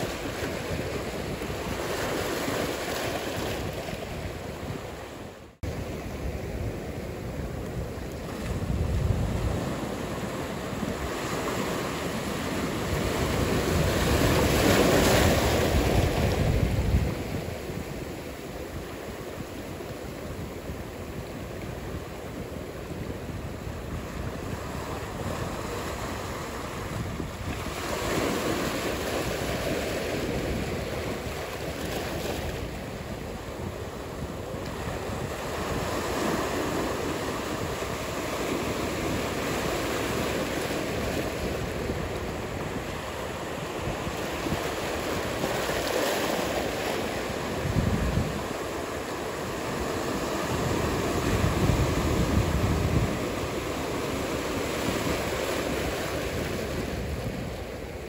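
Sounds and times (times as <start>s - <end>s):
ocean surf washing in: 0.0s - 58.0s
wind buffeting microphone: 0.0s - 58.0s.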